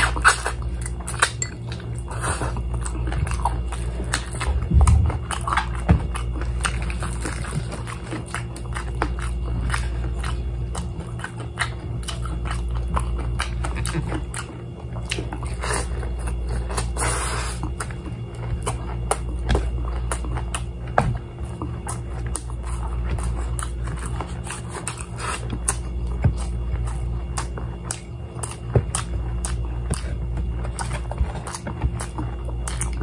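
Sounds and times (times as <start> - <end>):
chewing crispy fried chicken: 0.0 - 33.0
steady low hum: 0.0 - 33.0.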